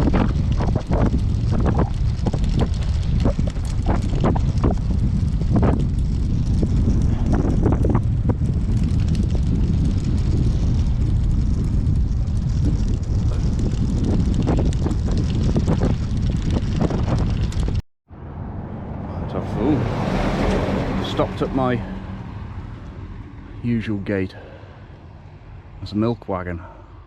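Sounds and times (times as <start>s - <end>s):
wind buffeting microphone: 0.0s - 25.8s.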